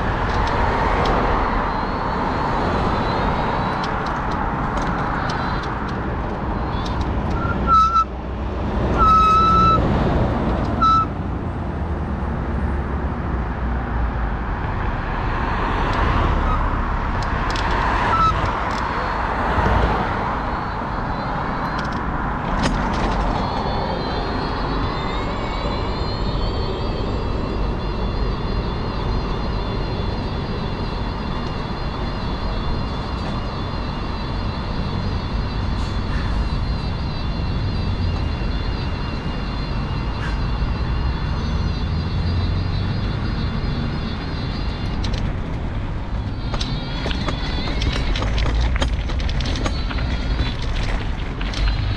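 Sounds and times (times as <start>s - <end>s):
road traffic: 0.0s - 51.9s
wheels rumbling on tarmac: 0.0s - 51.9s.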